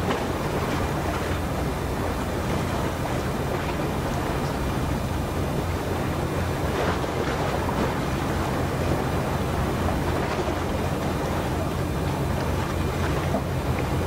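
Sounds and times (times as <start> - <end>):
harbour water: 0.0 - 14.0.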